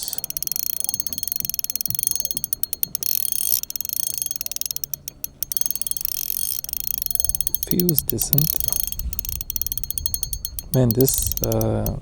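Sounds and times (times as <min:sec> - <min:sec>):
fishing reel ticking: 0:00.0 - 0:12.0.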